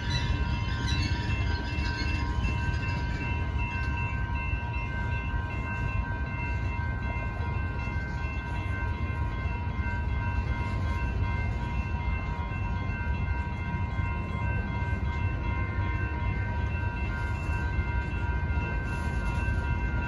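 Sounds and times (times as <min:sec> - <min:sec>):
crossing warning bells: 0:00.0 - 0:20.0.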